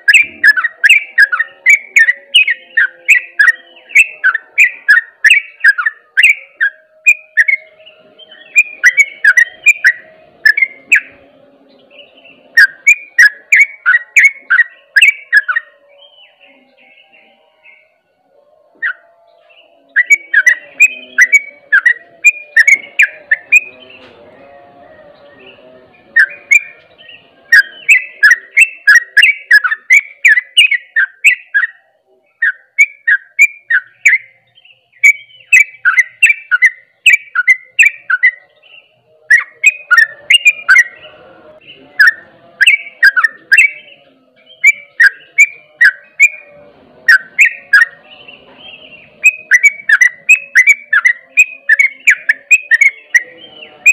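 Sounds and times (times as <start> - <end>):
bird chirping song: 0.0 - 53.9.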